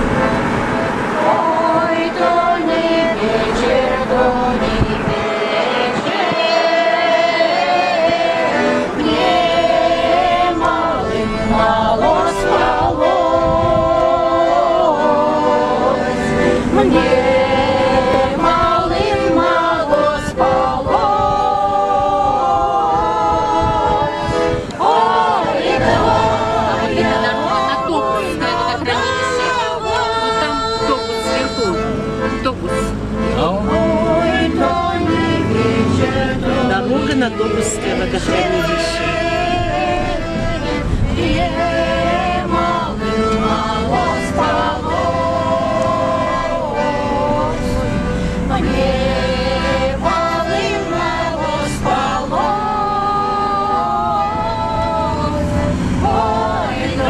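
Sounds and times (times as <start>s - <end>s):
choir singing in chorus: 0.0s - 32.4s, 33.0s - 57.0s
car road noise: 0.0s - 57.0s.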